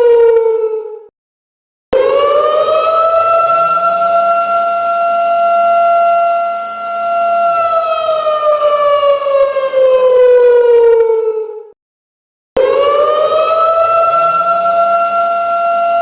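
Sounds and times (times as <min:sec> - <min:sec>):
siren wailing: 0:00.0 - 0:01.1, 0:02.0 - 0:11.8, 0:12.6 - 0:16.0.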